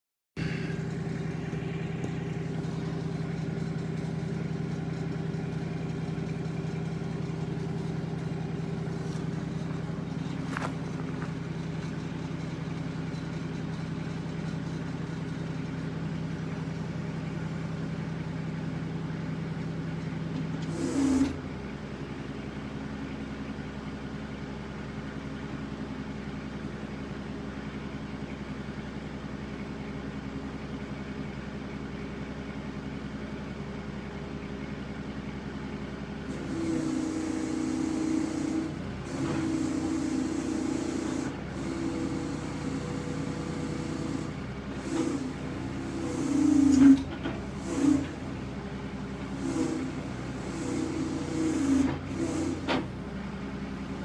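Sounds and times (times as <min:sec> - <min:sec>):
tractor diesel engine running: 0:00.4 - 0:54.0.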